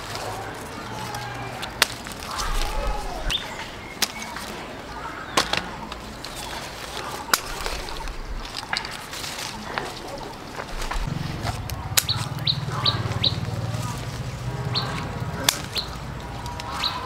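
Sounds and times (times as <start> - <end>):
garden scissors snipping stems: 0.0 - 4.6, 5.3 - 12.5, 15.0 - 17.0
leaves rustling: 0.0 - 17.0.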